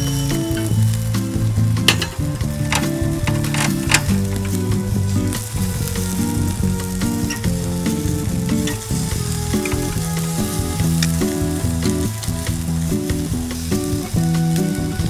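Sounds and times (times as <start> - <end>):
low tune of notes: 0.0 - 12.7
fish sizzling on a grill: 0.0 - 15.0.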